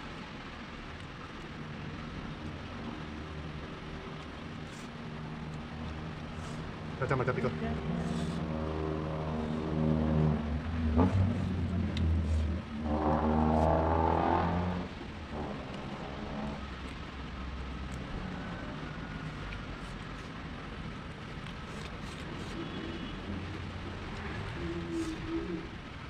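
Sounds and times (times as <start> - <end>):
vehicle engine: 0.0 - 26.0.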